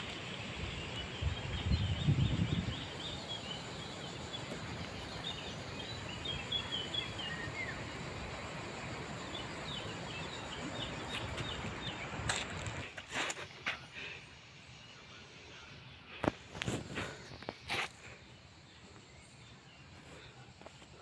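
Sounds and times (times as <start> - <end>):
small birds chirping: 0.0 - 21.0
steady background hiss: 0.0 - 21.0.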